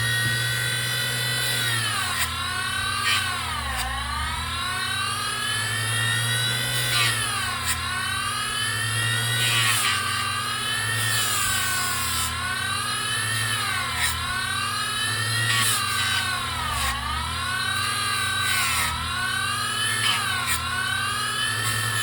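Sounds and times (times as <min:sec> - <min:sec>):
bench grinder whining: 0:00.0 - 0:22.0.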